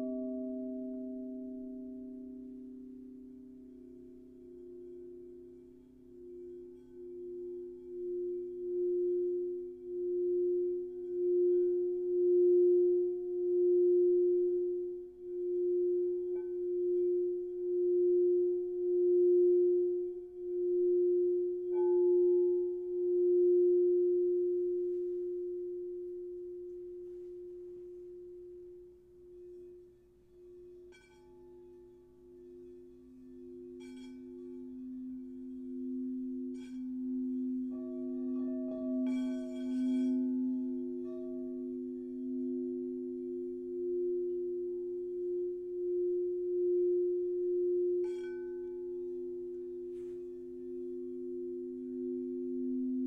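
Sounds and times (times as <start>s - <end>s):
light strikes on bowls: 0.0s - 53.0s
singing bowls ringing: 0.0s - 53.0s.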